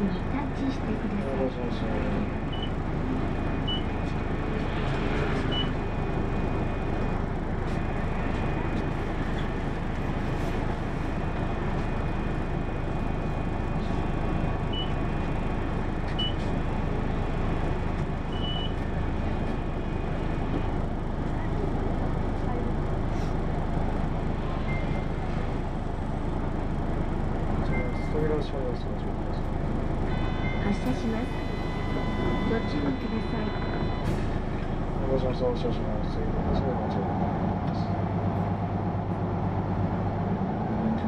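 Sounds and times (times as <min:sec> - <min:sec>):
bus engine and road noise: 0:00.0 - 0:41.0.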